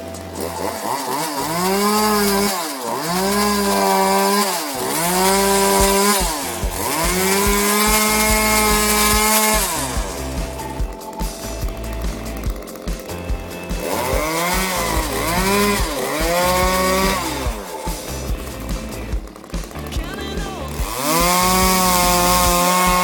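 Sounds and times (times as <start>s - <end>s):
chainsaw revving and idling: 0.0s - 23.0s.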